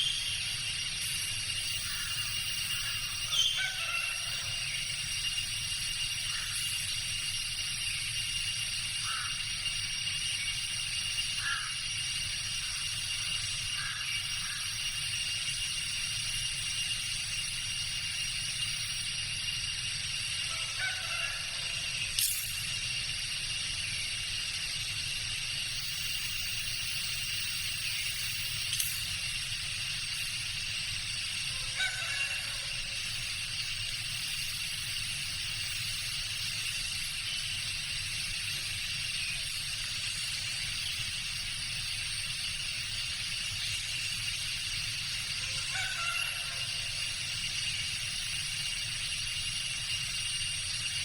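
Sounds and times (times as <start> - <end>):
insect chorus drone: 0.0 - 51.0.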